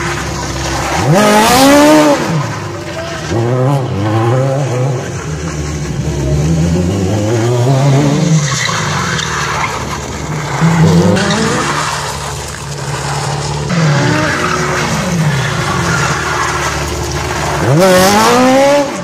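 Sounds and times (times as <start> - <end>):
car engine revving: 0.0 - 19.0
tyres squealing on asphalt: 0.0 - 19.0.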